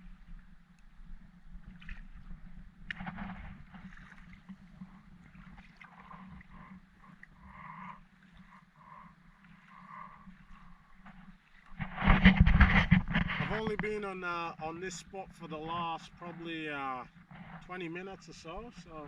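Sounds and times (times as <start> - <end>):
water lapping against hull: 0.0 - 19.0.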